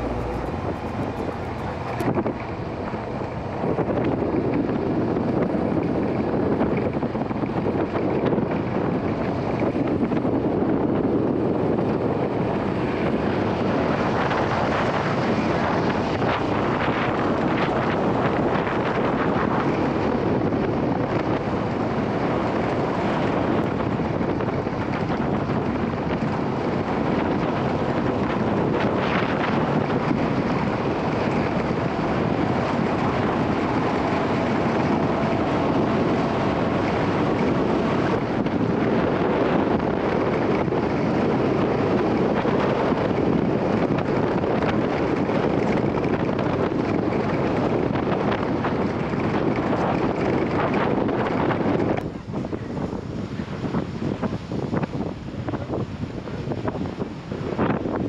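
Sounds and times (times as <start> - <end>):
engine running: 0.0 - 58.0
wind buffeting microphone: 0.0 - 58.0.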